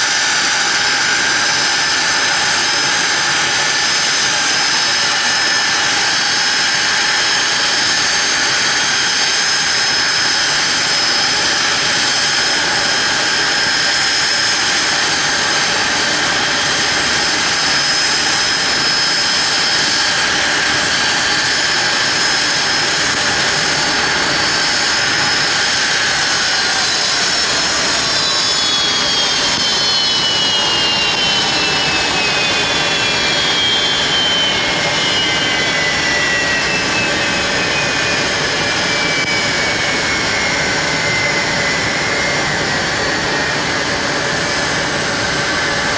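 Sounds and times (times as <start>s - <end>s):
jet engines whining: 0.0s - 45.9s.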